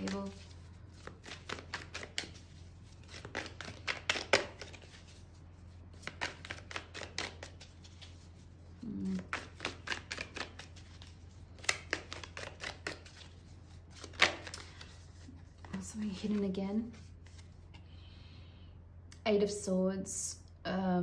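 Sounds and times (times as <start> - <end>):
cards being shuffled: 0.0 - 17.9.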